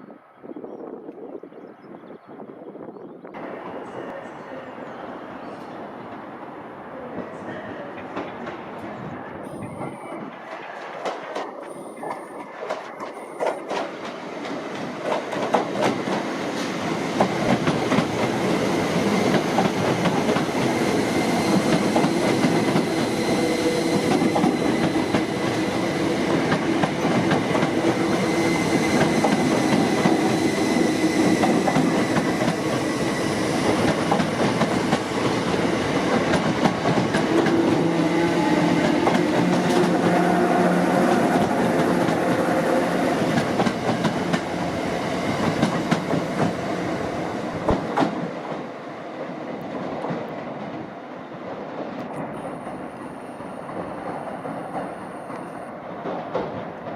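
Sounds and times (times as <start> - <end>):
train running on track: 2.8 - 56.9.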